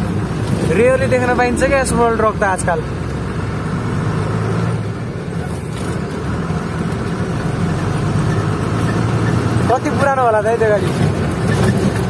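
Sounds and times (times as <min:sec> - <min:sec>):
road noise: 0:00.0 - 0:12.0
truck engine running: 0:00.0 - 0:12.0.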